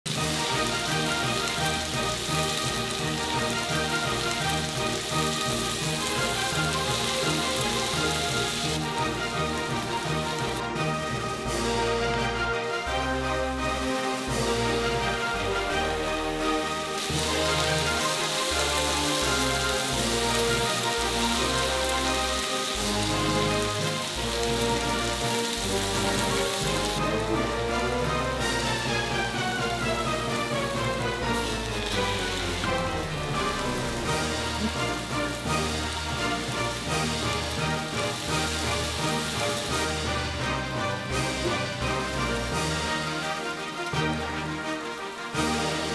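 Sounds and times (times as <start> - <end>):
pork belly sizzling: 0.1 - 45.9
rhythmic background music: 0.1 - 45.9.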